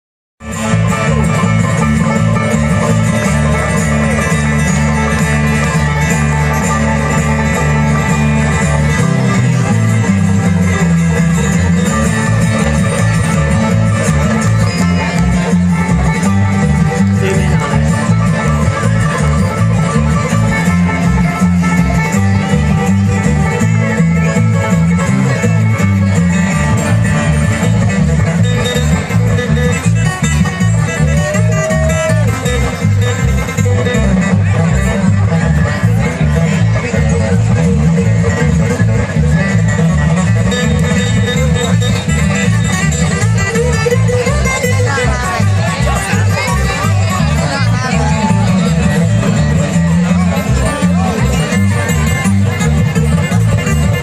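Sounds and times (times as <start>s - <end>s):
banjo: 0.4s - 54.0s
bluegrass string band playing: 0.4s - 54.0s
walking bass line: 0.4s - 54.0s.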